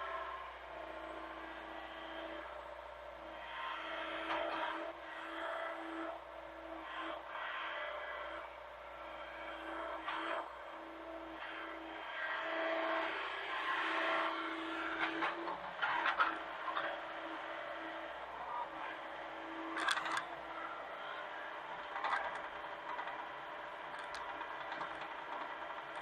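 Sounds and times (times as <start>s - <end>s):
mini excavator running: 0.0s - 2.6s, 3.3s - 26.0s.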